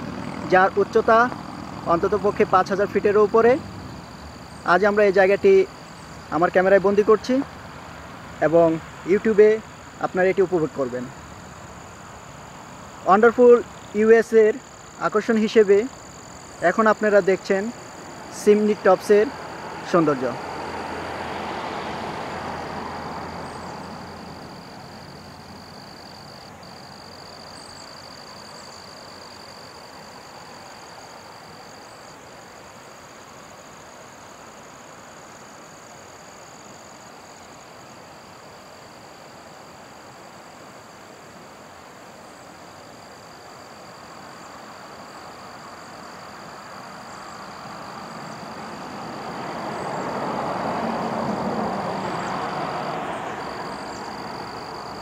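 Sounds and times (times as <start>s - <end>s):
high-pitched insect drone: 0.0s - 55.0s
road traffic passing: 0.0s - 55.0s.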